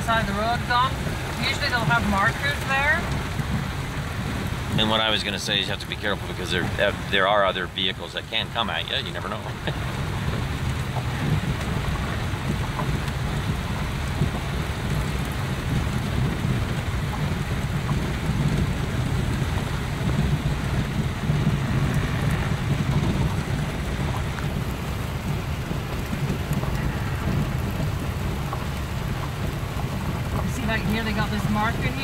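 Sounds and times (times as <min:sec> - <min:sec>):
heavy rain drumming on vehicle: 0:00.0 - 0:32.0
vehicle rumble: 0:00.0 - 0:32.0.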